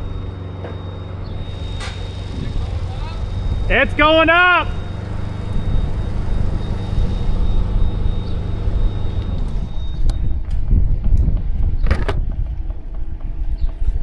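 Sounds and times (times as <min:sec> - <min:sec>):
lift engine running: 0:00.0 - 0:13.7.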